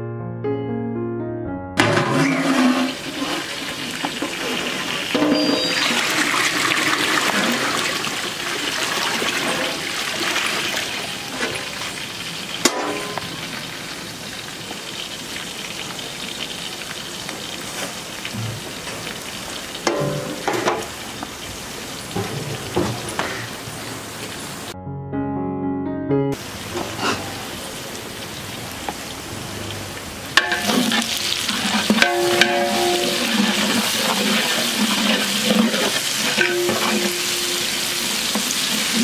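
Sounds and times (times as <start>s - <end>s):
food sizzling in hot oil: 2.0s - 24.7s, 26.4s - 39.0s.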